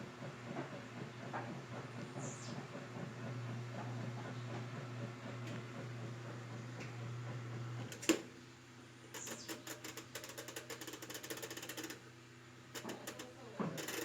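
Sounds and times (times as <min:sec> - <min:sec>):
washing machine hum: 0:00.0 - 0:14.0.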